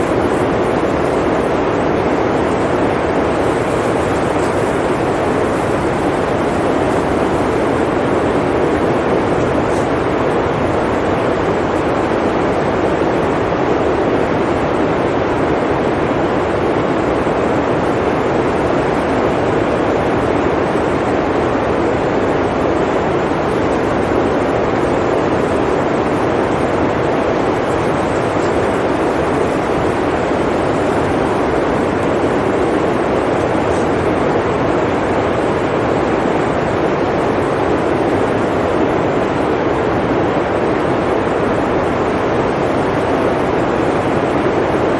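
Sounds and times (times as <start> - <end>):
blizzard wind blowing: 0.0 - 44.9.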